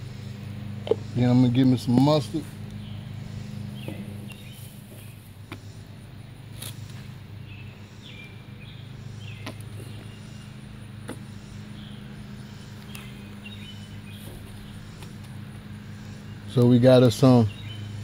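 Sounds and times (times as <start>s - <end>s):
air conditioner unit humming: 0.0s - 18.0s.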